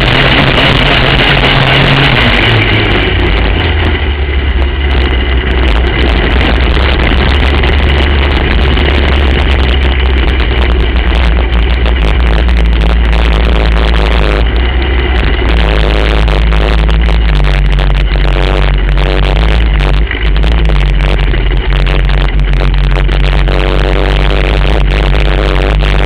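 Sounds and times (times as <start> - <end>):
racing kart engine: 0.0 - 26.0.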